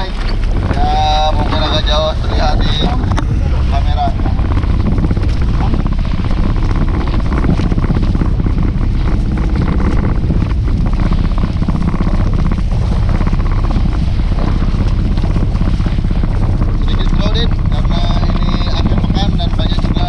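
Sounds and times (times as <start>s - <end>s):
boat motor running: 0.0s - 20.0s
wind buffeting microphone: 0.0s - 20.0s.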